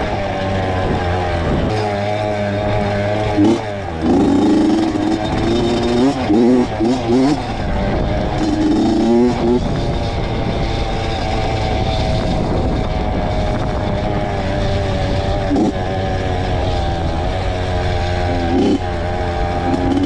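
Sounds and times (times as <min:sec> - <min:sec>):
two-stroke dirt bike engine: 0:00.0 - 0:20.0.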